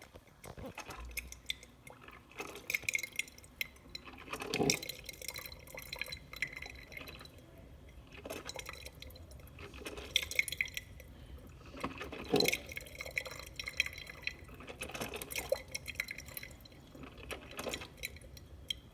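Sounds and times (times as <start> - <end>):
water dripping into glass carafe: 0.0 - 18.9.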